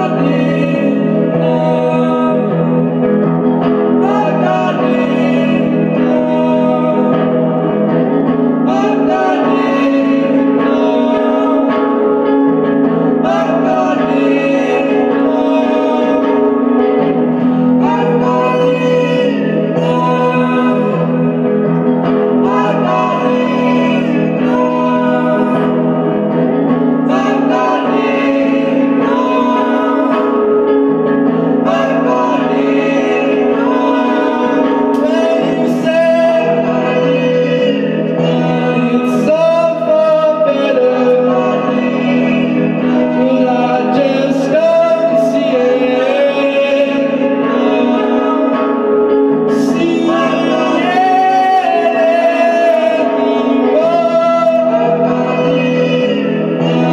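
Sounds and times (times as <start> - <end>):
person singing slow melody: 0.0 - 56.9.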